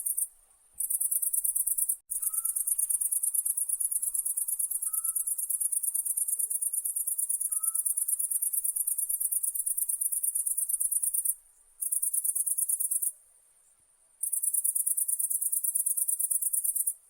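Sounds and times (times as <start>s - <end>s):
night insects trilling: 0.0s - 13.1s, 14.2s - 17.0s.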